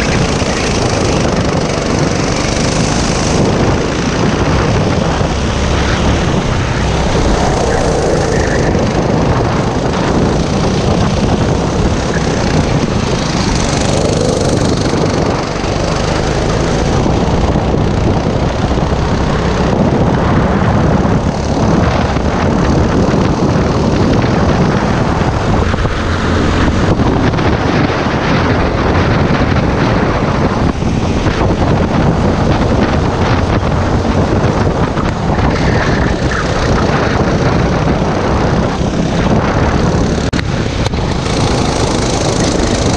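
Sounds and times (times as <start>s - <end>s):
kart engine running hard: 0.0s - 42.9s.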